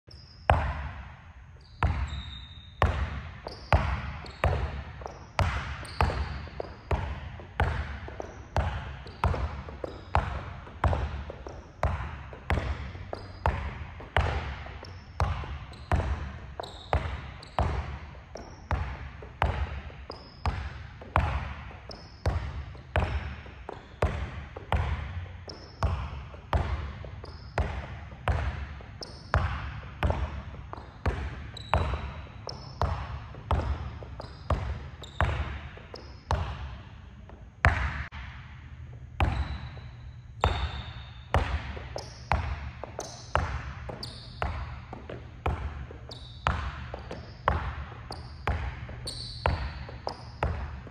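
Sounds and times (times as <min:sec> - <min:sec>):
basketball bouncing on gym floor: 0:00.1 - 0:50.9.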